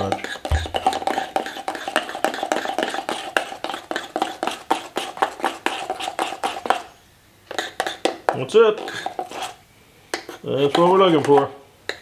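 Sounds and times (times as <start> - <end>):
utensil stirring and clicking in container: 0.0 - 6.9, 7.5 - 12.0.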